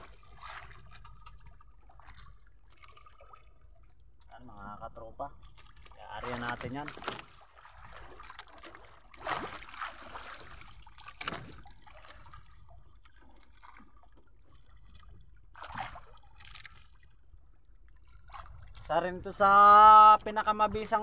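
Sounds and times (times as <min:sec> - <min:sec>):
water splashing against boat: 0:00.0 - 0:21.0.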